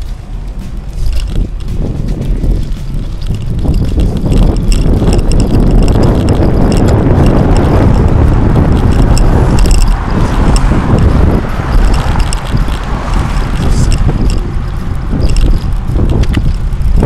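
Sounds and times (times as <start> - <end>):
car traffic: 0.0 - 17.0
road rumble: 0.0 - 17.0
wind on microphone: 0.0 - 17.0
rattles of camera mount: 0.9 - 17.0.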